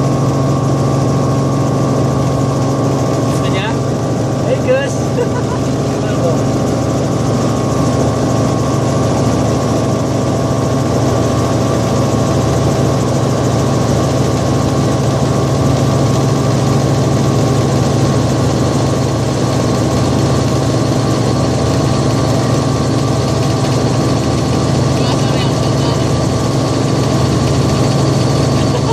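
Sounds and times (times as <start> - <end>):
helicopter engine and rotor: 0.0 - 28.9.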